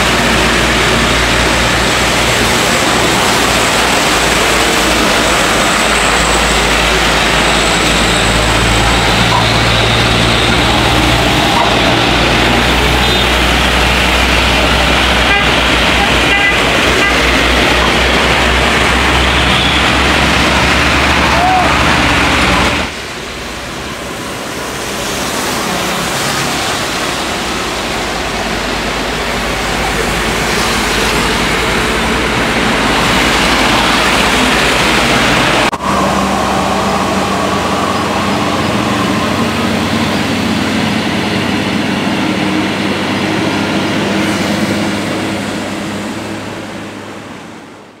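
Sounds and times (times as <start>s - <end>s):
diesel truck engines: 0.0s - 48.0s
tyres hissing on wet road: 0.0s - 48.0s.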